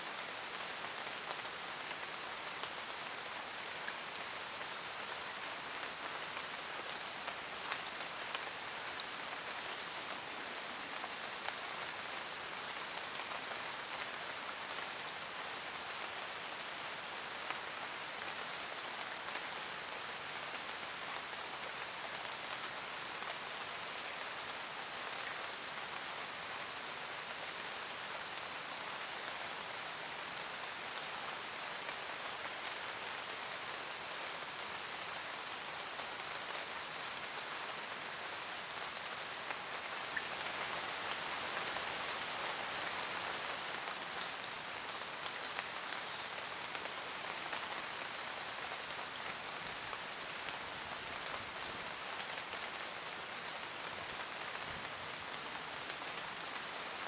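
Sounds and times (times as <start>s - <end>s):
steady rain hiss: 0.0s - 57.0s
raindrops pattering on leaves: 0.1s - 57.0s.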